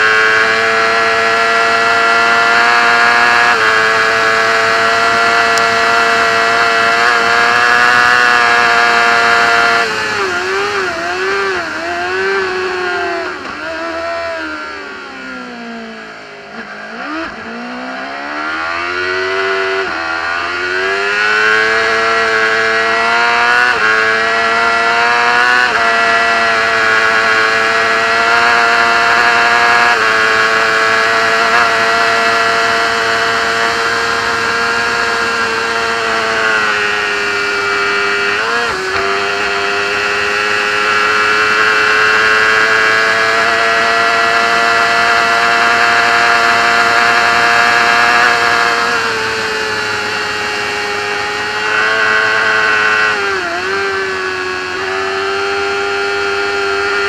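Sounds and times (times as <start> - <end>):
motorcycle engine accelerating hard: 0.0 - 57.0.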